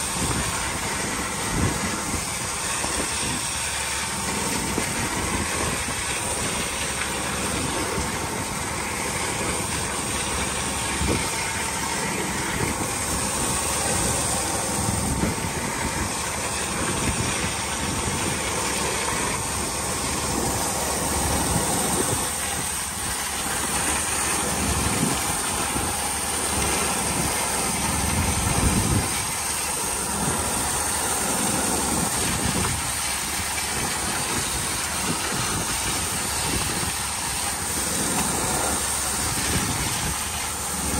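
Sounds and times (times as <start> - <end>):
wind noise on microphone: 0.0 - 30.8, 31.4 - 40.9
boat engine running: 0.0 - 40.9.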